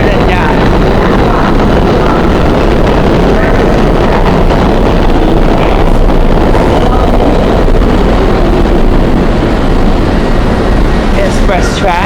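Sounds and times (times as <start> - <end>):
rail noise: 0.0 - 12.0
subway train rumbling: 0.0 - 12.0.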